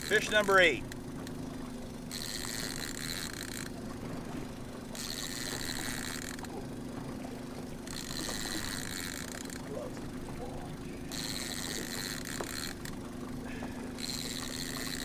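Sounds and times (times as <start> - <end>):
boat motor humming: 0.0 - 15.0
fishing reel whirring: 0.0 - 15.0.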